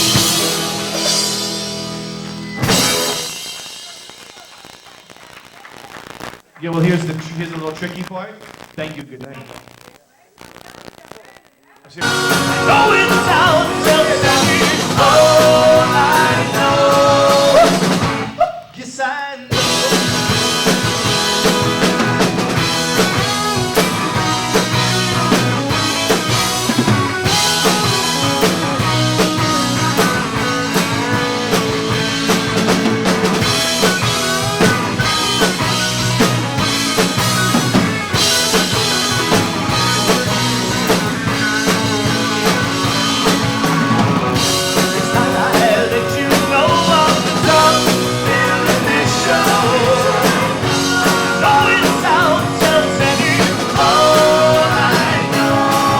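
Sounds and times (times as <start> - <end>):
rock band playing live: 0.0 - 5.8, 12.0 - 18.7, 19.5 - 55.9
drum kit beat: 0.0 - 7.4, 11.9 - 18.8, 19.5 - 55.9.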